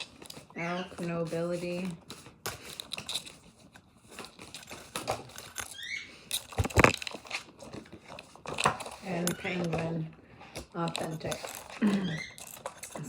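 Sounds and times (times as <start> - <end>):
cards clicking and rustling: 0.0 - 13.0.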